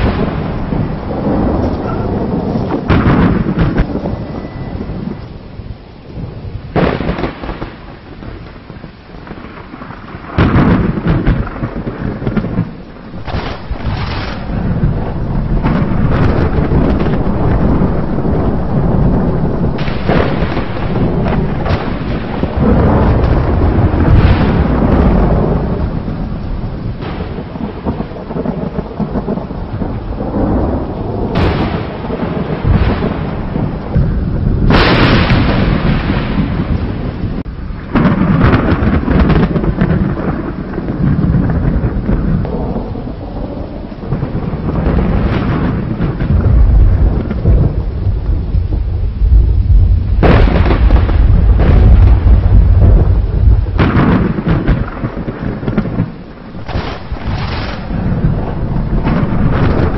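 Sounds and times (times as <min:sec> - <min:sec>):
thunder rumbling and cracking: 0:00.0 - 0:59.9.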